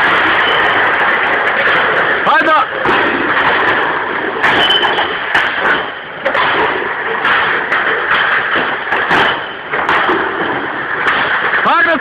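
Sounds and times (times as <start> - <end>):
beer crates clattering: 0.0 - 12.0.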